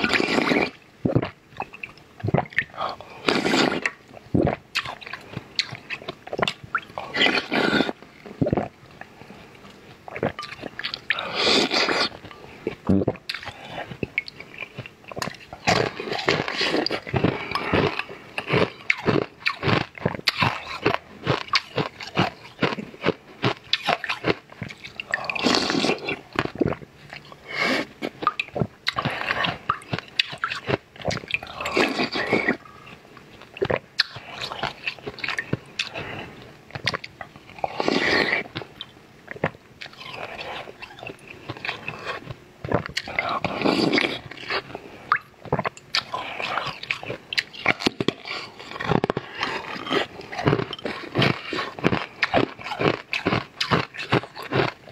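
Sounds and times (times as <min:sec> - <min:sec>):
crunching ice while chewing: 0:00.0 - 0:08.7, 0:10.1 - 0:54.9.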